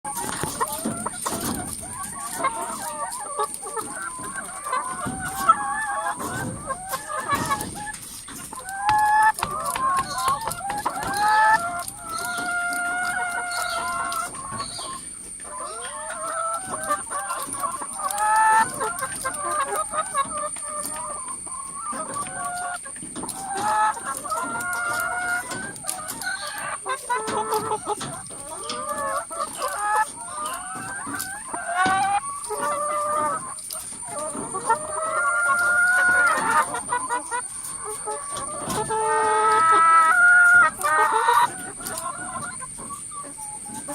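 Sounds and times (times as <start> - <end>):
hens clucking and squawking: 0.0 - 43.9.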